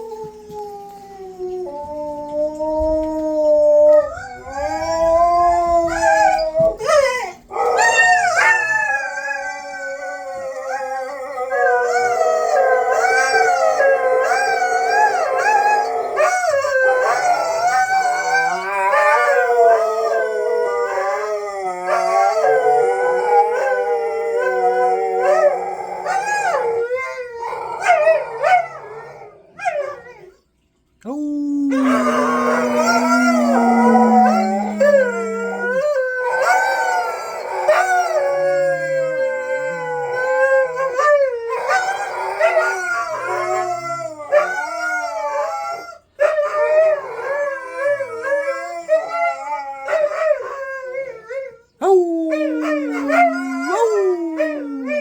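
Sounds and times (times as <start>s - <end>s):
dog howling: 0.0s - 30.3s, 31.0s - 55.0s.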